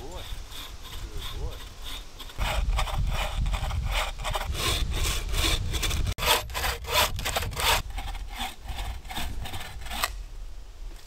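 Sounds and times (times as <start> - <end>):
hand saw cutting log: 0.0 - 10.2.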